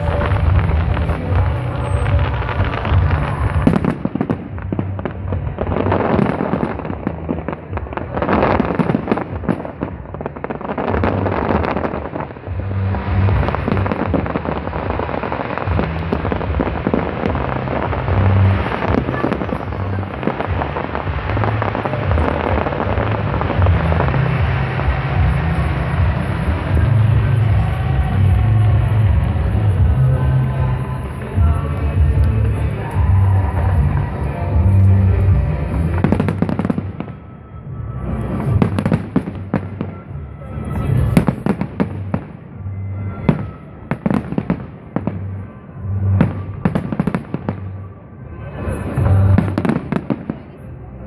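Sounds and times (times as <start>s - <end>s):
fireworks crackling and popping: 0.0s - 51.0s.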